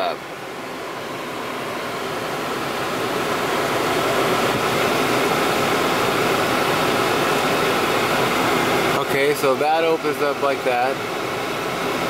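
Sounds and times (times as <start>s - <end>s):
car blower air rushing: 0.0s - 12.0s.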